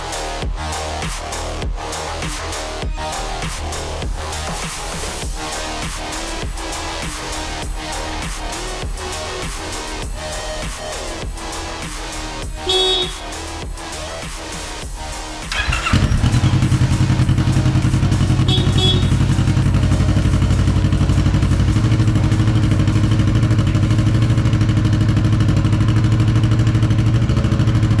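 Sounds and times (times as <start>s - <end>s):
motorcycle engine starting and idling: 3.0s - 28.0s.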